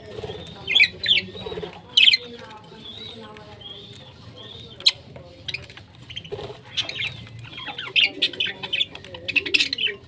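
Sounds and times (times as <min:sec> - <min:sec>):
parrots chirping and chattering: 0:00.0 - 0:10.0.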